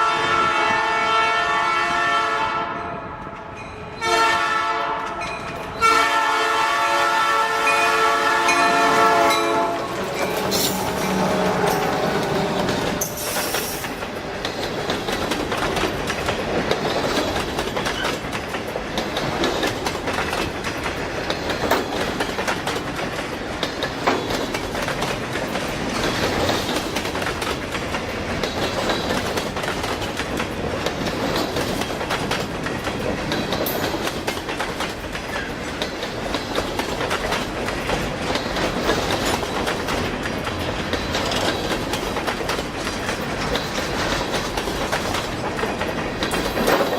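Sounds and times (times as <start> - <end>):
freight train rumbling past: 0.0 - 46.9
steel wheels clacking on rail joints: 5.0 - 6.1, 8.3 - 46.9.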